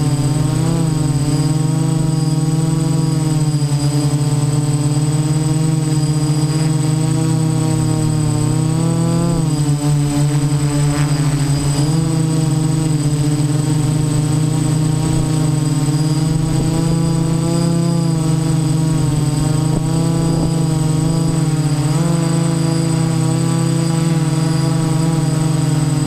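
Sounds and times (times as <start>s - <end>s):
drone motors and propellers buzzing: 0.0s - 26.0s
high motor whine: 0.0s - 26.0s.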